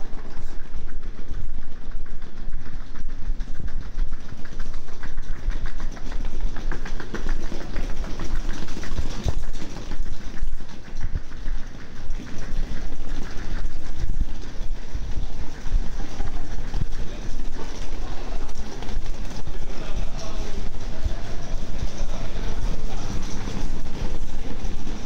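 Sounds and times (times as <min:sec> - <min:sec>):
suitcase wheels rolling on tiles: 0:00.0 - 0:25.0.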